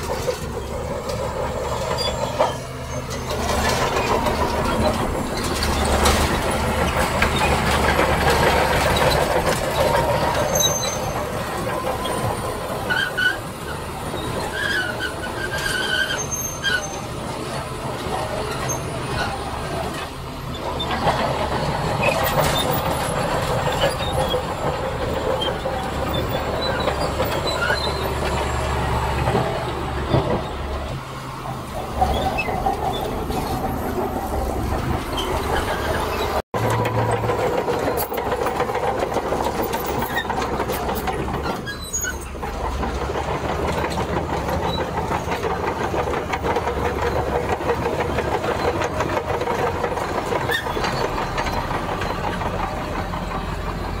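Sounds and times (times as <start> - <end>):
diesel engines running under load: 0.0 - 54.0
metallic squeals and clanks: 0.0 - 54.0.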